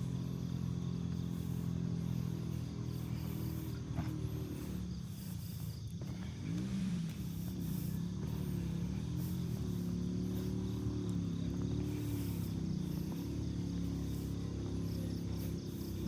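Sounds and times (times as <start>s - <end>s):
insects buzzing: 0.0s - 16.0s
vehicle engine running: 0.0s - 16.0s.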